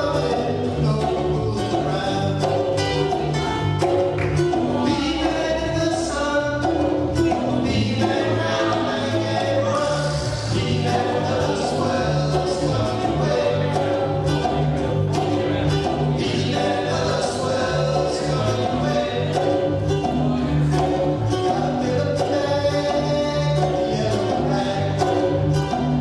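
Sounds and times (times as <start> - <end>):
bass line: 0.0 - 26.0
music with singing: 0.0 - 26.0
percussive beats: 0.0 - 26.0.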